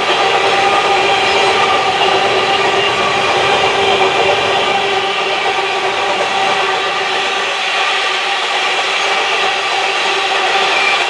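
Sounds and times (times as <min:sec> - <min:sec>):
wagon wheels grating on rails: 0:00.0 - 0:11.0.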